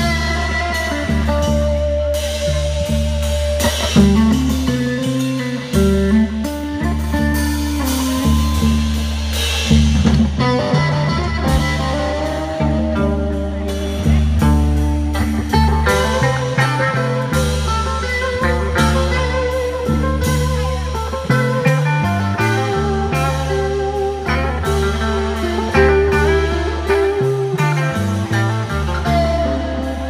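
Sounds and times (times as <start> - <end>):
bass line: 0.0 - 30.0
drums: 0.0 - 30.0
guitars: 0.0 - 30.0.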